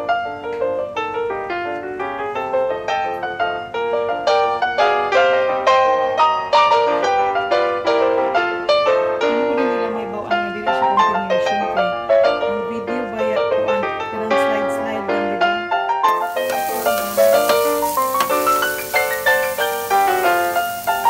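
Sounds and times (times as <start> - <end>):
solo piano playing: 0.0 - 21.0.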